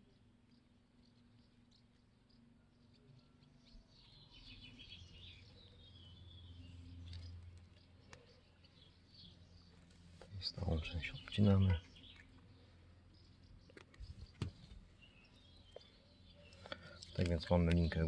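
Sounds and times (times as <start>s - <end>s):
faint bird chirping: 0.0s - 18.0s.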